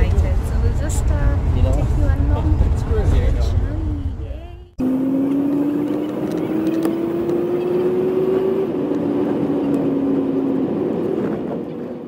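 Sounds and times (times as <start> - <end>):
bus engine drone: 0.0 - 12.0
road noise: 0.0 - 12.0.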